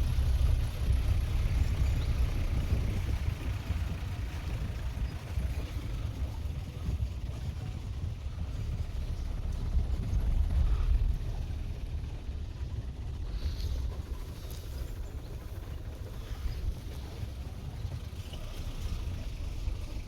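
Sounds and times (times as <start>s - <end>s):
jeep engine and road rumble: 0.0s - 20.0s.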